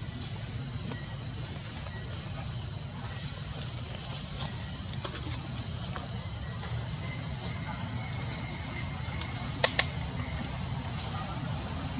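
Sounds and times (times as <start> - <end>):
insects buzzing: 0.0 - 11.9.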